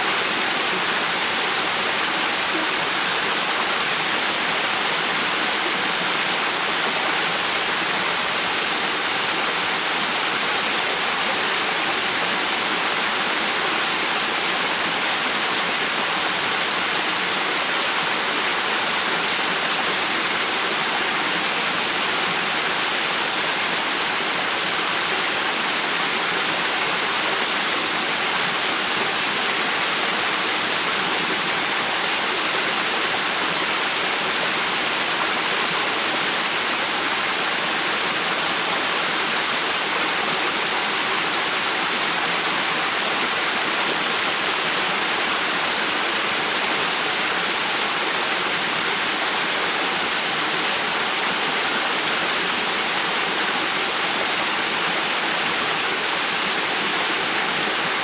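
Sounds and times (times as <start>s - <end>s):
rushing river water: 0.0s - 58.0s.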